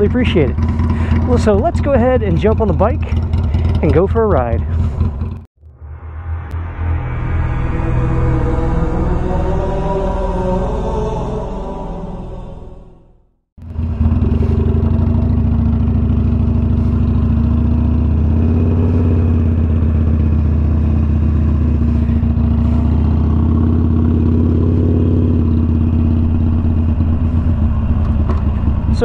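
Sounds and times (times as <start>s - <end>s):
motorcycle engine deep note: 0.0s - 29.0s.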